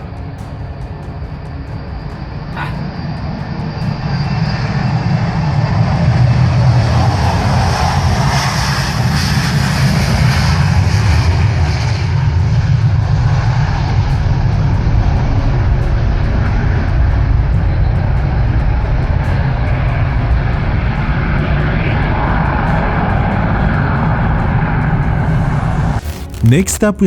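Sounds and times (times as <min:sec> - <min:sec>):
jet engines at takeoff: 0:00.0 - 0:26.1.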